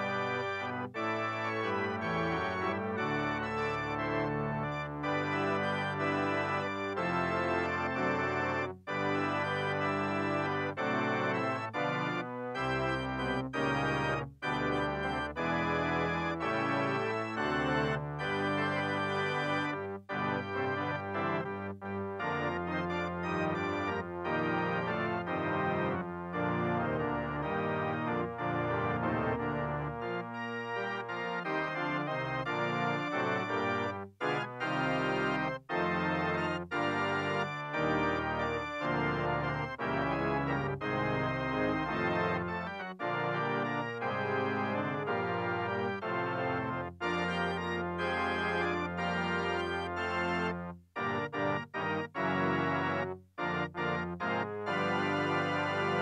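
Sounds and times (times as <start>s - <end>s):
organ chords: 0.0s - 56.0s.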